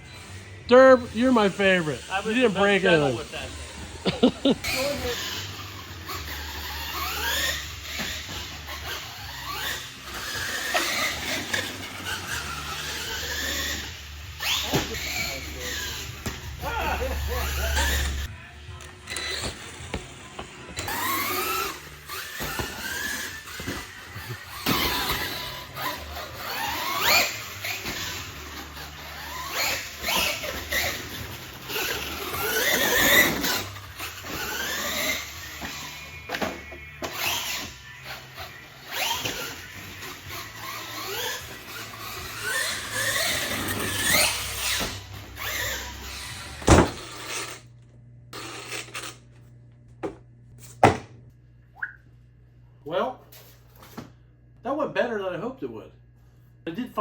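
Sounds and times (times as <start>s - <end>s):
electric motor whining: 0.0s - 18.4s, 19.0s - 47.6s.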